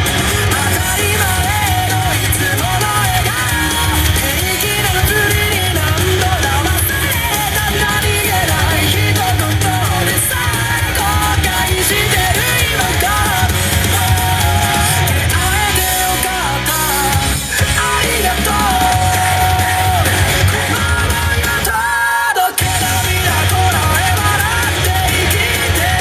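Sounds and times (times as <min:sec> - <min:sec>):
loud dance music: 0:00.0 - 0:26.0
person singing: 0:00.0 - 0:26.0.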